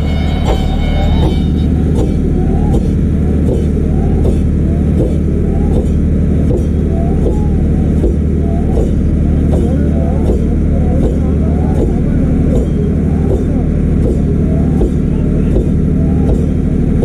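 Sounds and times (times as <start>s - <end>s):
motorboat engine running: 0.0s - 17.0s
rowers calling: 0.0s - 17.0s.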